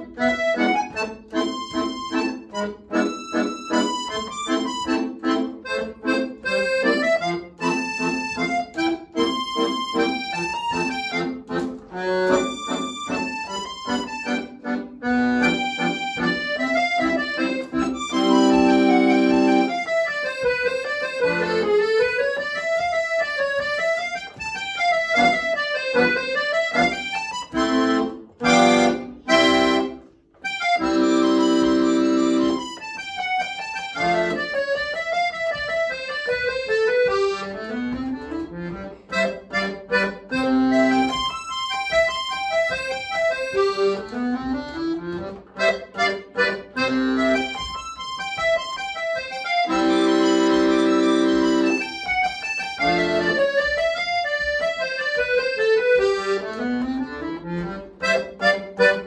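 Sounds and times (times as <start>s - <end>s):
accordion playing solo: 0.0s - 59.0s.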